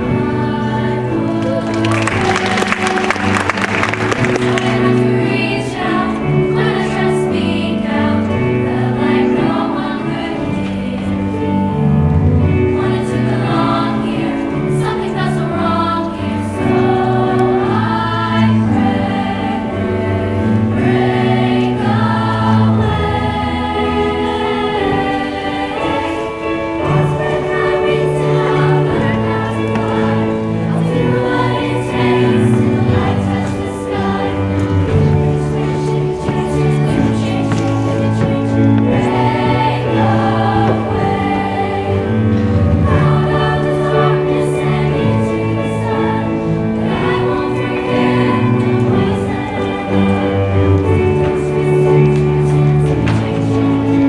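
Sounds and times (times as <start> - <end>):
choir singing chords: 0.0 - 54.0.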